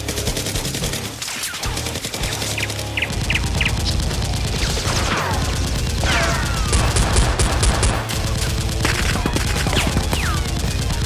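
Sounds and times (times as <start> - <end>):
automatic gunfire: 0.0 - 11.0
background music with bass line: 0.0 - 11.0.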